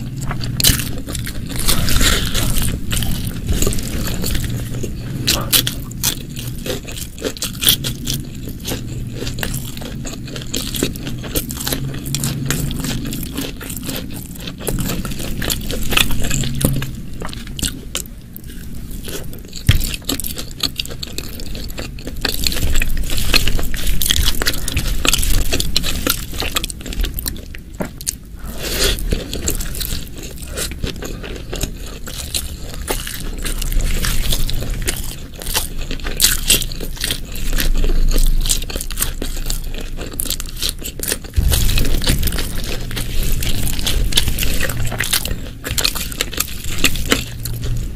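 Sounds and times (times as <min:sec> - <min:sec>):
chewing and biting food: 0:00.0 - 0:47.9.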